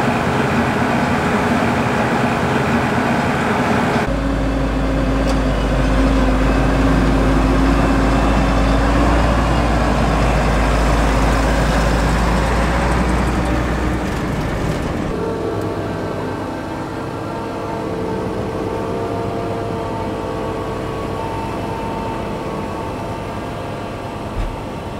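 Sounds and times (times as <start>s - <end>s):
deep steady drone: 0.0s - 24.9s
diesel engines under load: 0.0s - 24.9s.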